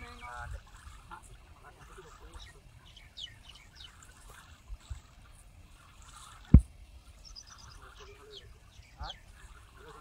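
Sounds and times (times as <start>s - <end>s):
birds chirping: 0.0s - 10.0s
water sloshing from wading: 0.0s - 10.0s.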